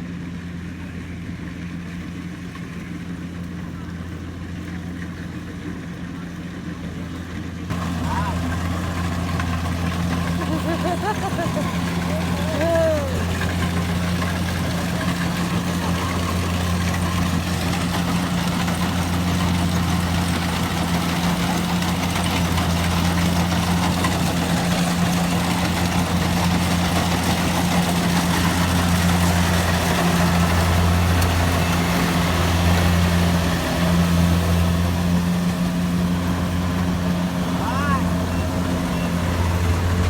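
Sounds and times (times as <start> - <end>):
engine running with deep hum: 0.0 - 40.0.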